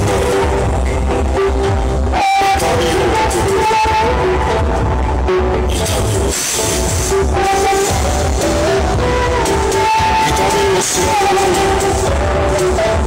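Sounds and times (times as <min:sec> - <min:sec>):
loud music with pulsing bass: 0:00.0 - 0:13.0.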